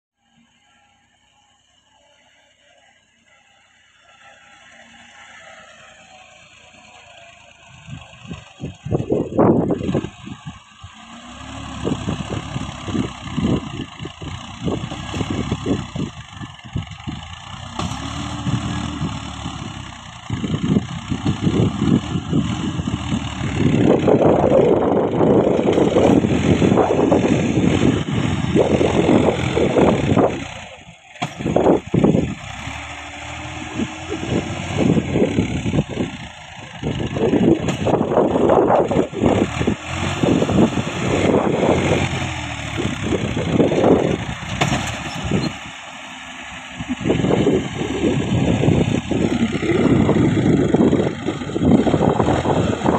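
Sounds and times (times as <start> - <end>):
tractor diesel engine labouring: 0.2 - 52.9.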